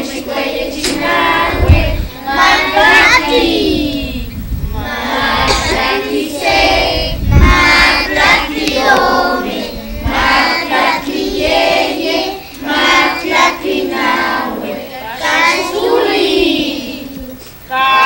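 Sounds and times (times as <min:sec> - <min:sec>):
children singing in unison: 0:00.0 - 0:18.0.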